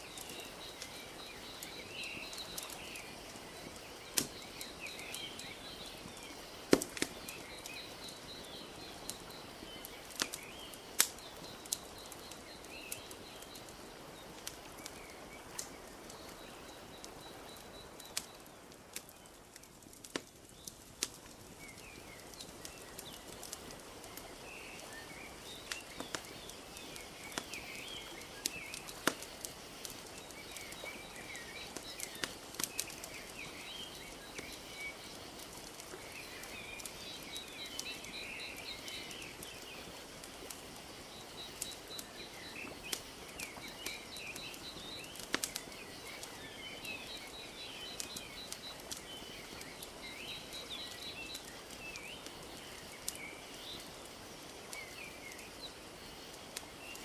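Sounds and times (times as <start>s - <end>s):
small birds chirping: 0.0s - 57.0s
wood fire crackling: 0.0s - 57.0s.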